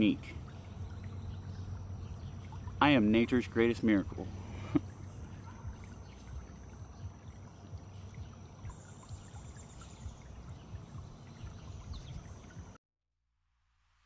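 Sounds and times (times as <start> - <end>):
water trickling and splashing: 0.0 - 12.8.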